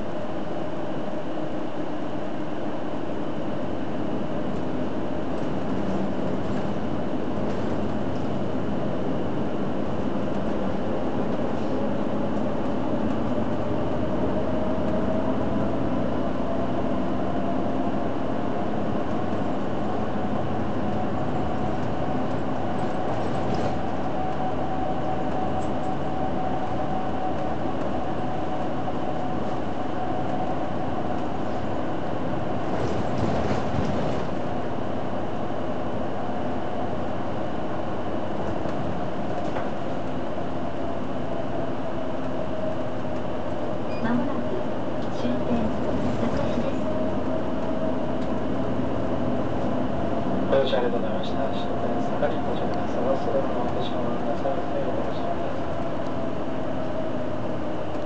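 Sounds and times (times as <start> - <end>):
bus road noise: 0.0 - 58.0.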